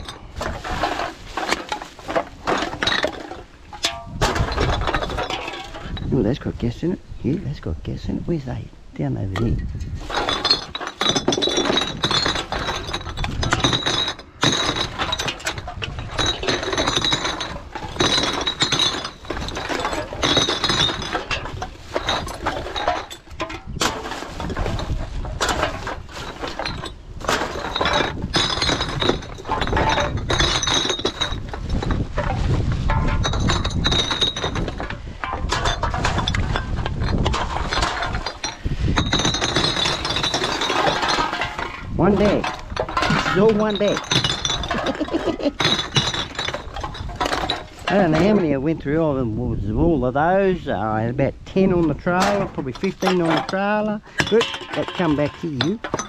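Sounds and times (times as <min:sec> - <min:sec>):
glass bottles clinking: 0:00.0 - 0:06.6, 0:09.2 - 0:56.0.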